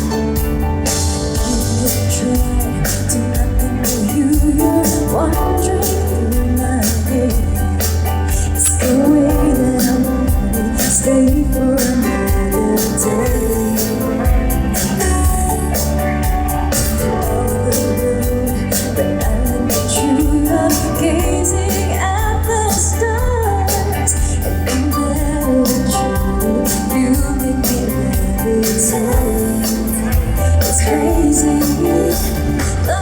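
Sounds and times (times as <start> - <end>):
accompaniment with heavy bass: 0.0 - 33.0
woman singing pop song: 0.0 - 33.0.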